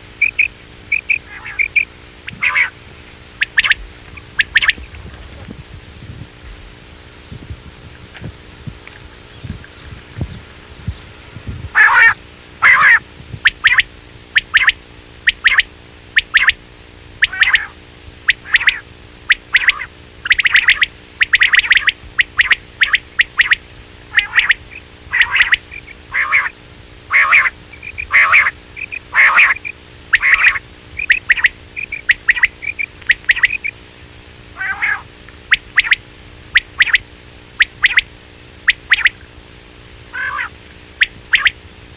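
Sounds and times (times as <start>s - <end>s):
quail calls: 0.0s - 16.6s, 17.2s - 33.8s, 34.5s - 38.1s, 38.7s - 39.2s, 40.1s - 41.6s
faint high whine: 0.0s - 41.9s.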